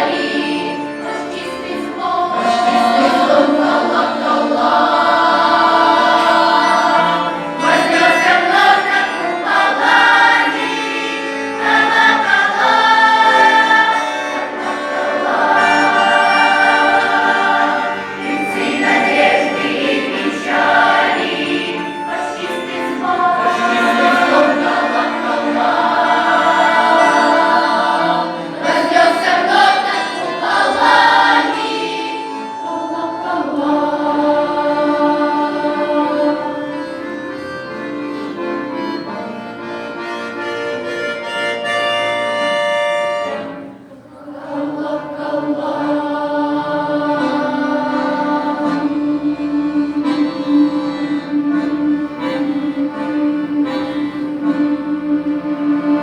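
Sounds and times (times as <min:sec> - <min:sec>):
choir of young voices singing: 0:00.0 - 0:37.4, 0:43.1 - 0:56.0
instrumental backing: 0:00.0 - 0:56.0.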